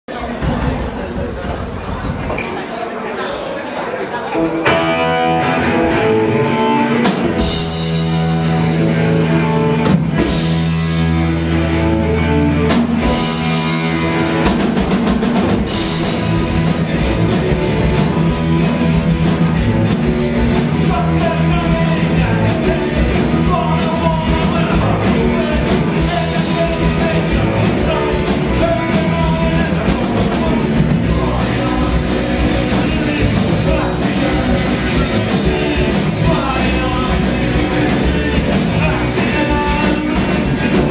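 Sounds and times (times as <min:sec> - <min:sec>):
drumming: 0:00.1 - 0:02.7, 0:07.0 - 0:11.5, 0:12.7 - 0:40.9
rock band playing: 0:04.1 - 0:40.9
guitar chords: 0:04.4 - 0:40.9.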